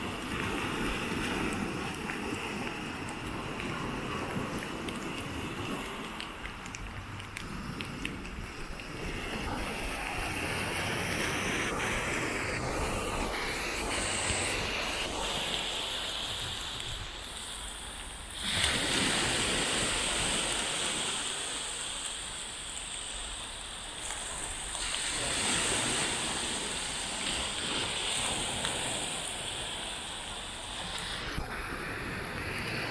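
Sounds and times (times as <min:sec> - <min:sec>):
wind on microphone: 0:00.0 - 0:22.6, 0:24.1 - 0:32.9
surf washing up a sandy beach: 0:00.0 - 0:32.9.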